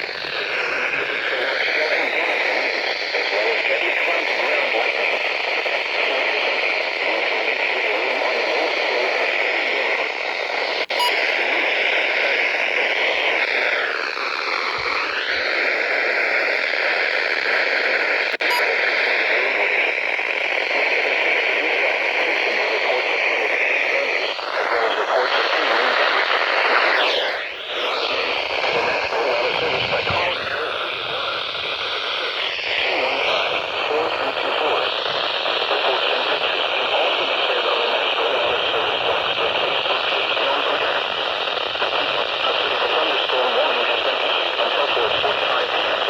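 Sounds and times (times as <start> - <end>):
radio static hiss: 0.0 - 46.0.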